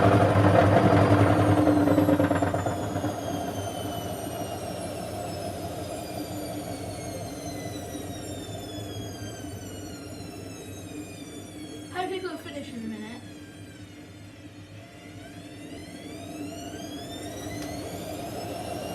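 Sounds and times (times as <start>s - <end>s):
washing machine spin slowing: 0.0s - 18.9s.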